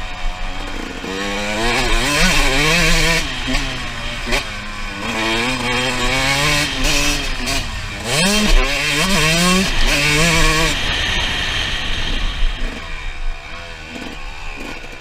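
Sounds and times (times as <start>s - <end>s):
two-stroke dirt bike engine revving: 0.0s - 15.0s.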